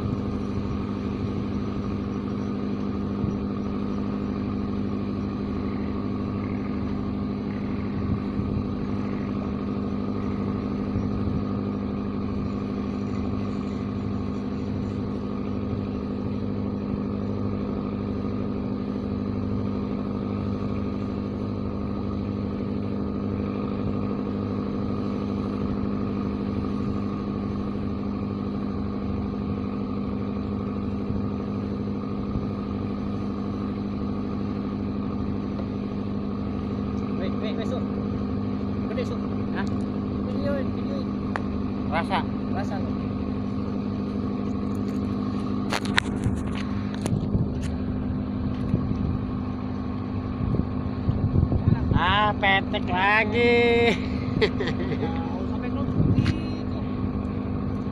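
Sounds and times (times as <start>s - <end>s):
engine humming steadily: 0.0s - 57.9s.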